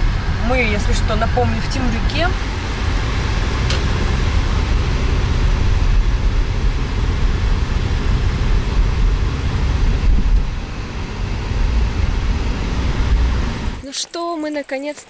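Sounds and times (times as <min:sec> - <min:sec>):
car interior road noise: 0:00.0 - 0:13.8.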